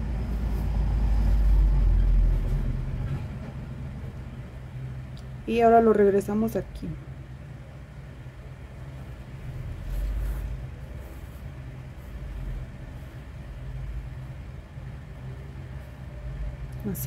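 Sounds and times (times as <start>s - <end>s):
low background hum and rumble: 0.0s - 17.0s.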